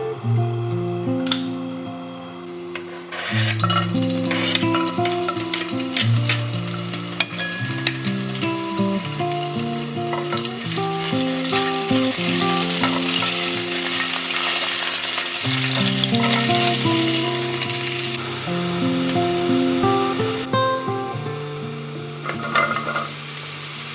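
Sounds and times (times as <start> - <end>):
soft background music: 0.0 - 23.9
food sizzling in frying pan: 2.3 - 23.9.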